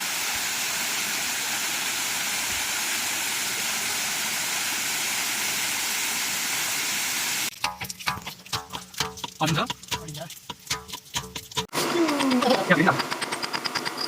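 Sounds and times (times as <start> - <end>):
flowing water rushing: 0.0 - 13.1.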